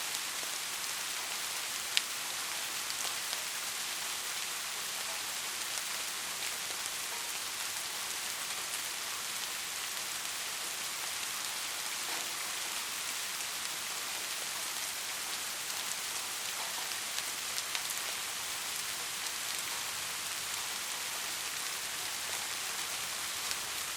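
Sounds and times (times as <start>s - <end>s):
heavy rainfall: 0.0s - 23.9s.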